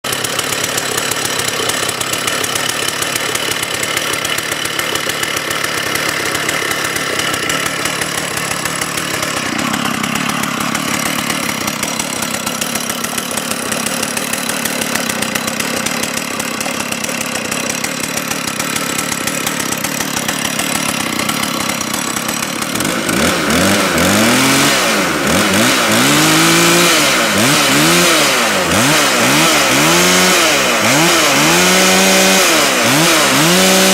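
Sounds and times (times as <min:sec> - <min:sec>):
chainsaw idling and revving: 0:00.0 - 0:33.9.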